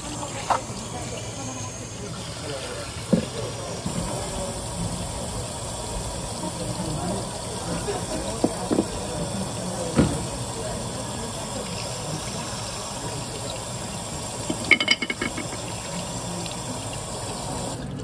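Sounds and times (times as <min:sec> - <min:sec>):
tap water splashing: 0:00.2 - 0:01.3, 0:02.6 - 0:05.2, 0:07.0 - 0:18.0.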